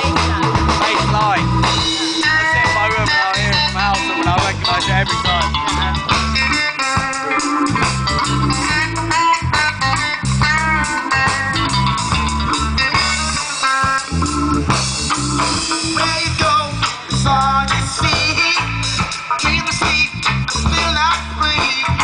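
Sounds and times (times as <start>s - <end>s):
electric guitar lines: 0.0s - 22.0s
reggae band playing: 0.0s - 22.0s.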